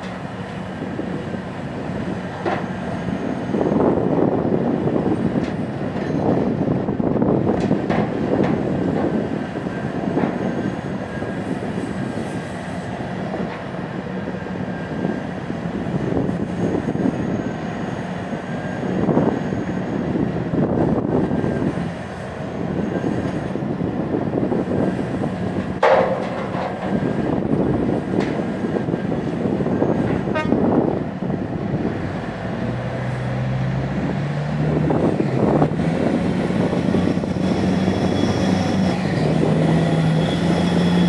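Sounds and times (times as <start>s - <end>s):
heavy excavator and truck engines: 0.0s - 41.0s.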